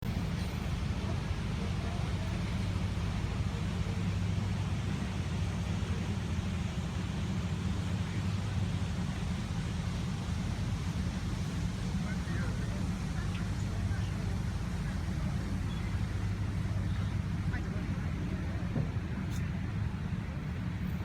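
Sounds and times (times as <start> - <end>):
boat engine droning: 0.0 - 21.0
hiss of wind and water: 0.0 - 21.0.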